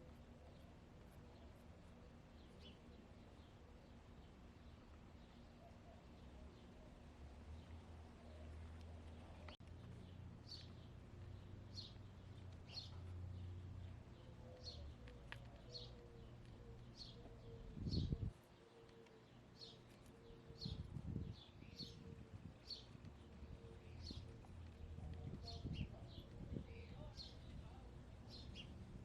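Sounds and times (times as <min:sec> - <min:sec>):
songbird chirping: 0:00.0 - 0:29.0.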